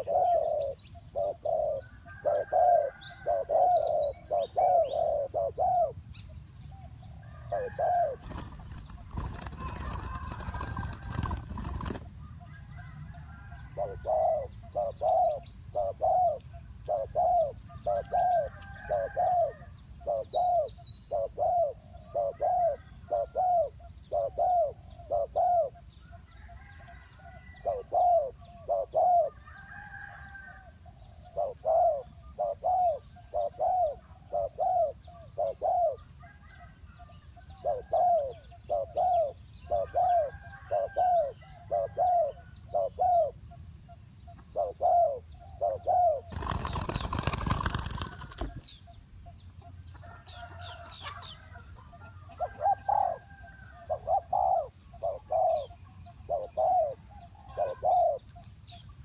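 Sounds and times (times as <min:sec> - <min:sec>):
doves cooing: 0:00.0 - 0:06.1, 0:06.8 - 0:25.8, 0:26.4 - 0:30.4, 0:31.2 - 0:36.8, 0:37.5 - 0:43.4, 0:44.4 - 0:48.7, 0:49.6 - 0:58.3.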